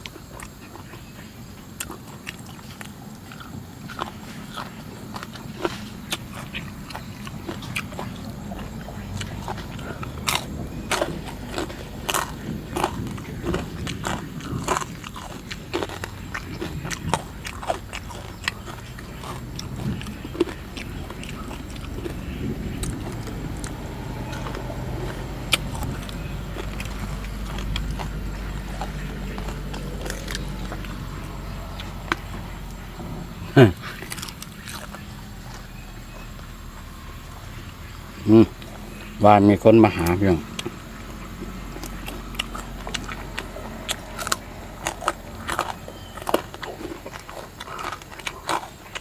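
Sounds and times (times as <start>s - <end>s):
person chewing: 0.0s - 39.2s, 39.9s - 49.0s
crunching food: 0.0s - 49.0s.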